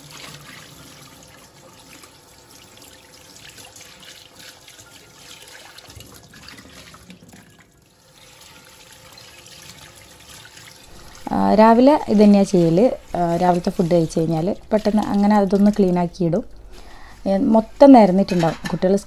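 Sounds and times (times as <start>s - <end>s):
dishes rinsed under water: 0.0s - 19.0s.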